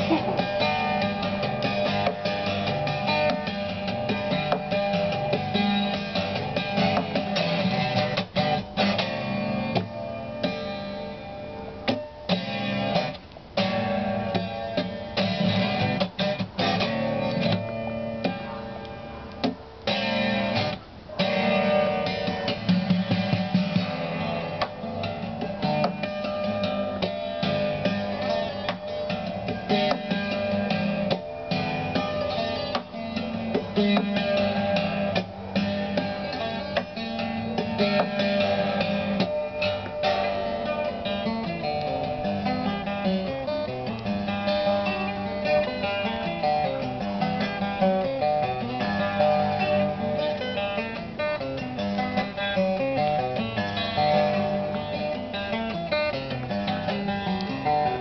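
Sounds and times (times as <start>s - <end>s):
acoustic guitar picking: 0.0s - 58.0s.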